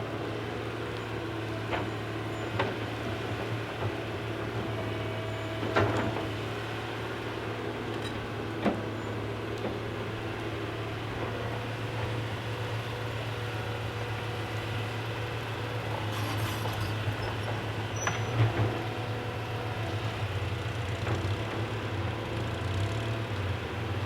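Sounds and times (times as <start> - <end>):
excavator engine droning: 0.0 - 24.0.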